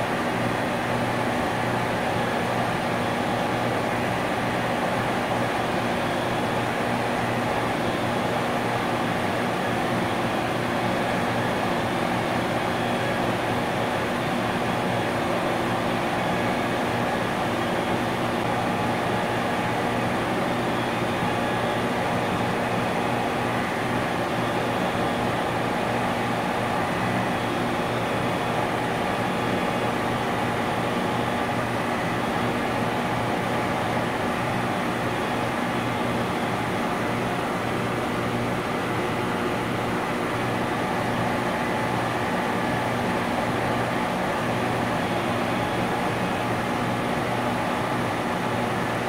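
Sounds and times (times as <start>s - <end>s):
industrial compressor running: 0.0s - 49.0s.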